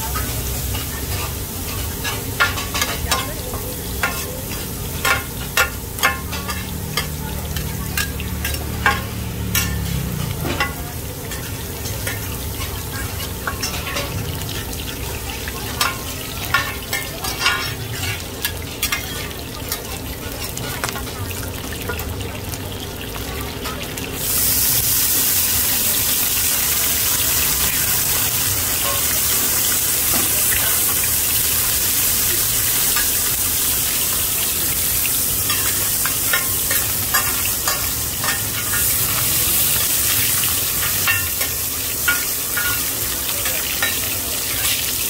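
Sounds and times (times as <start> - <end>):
batter frying in oil: 0.0 - 45.0.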